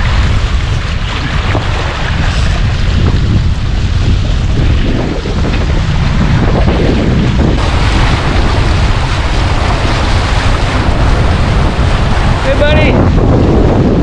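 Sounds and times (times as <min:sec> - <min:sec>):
water rushing along hulls: 0:00.0 - 0:14.0
wind buffeting microphone: 0:00.0 - 0:14.0.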